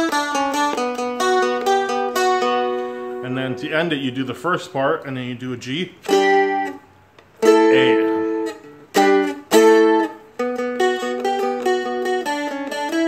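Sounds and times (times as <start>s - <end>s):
picked single notes: 0.0s - 13.0s
strummed string chords: 0.0s - 13.0s.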